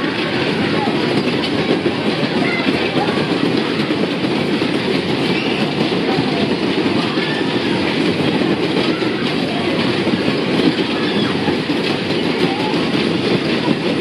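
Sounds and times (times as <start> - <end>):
ride wheels rumbling and clattering: 0.0 - 14.0.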